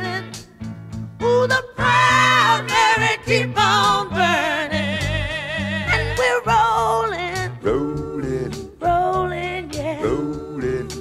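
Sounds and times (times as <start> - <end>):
song with band and vocals: 0.0 - 11.0.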